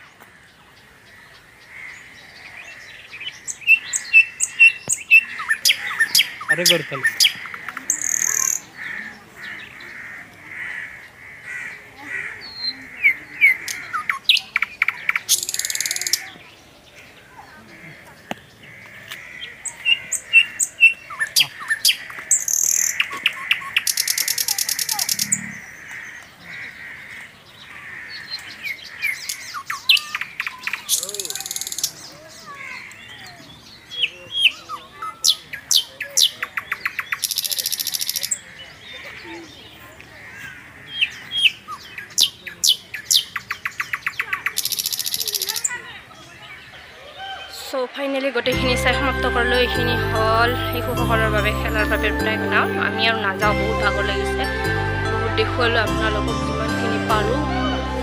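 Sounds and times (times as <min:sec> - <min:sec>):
small birds chirping: 0:00.0 - 0:53.5.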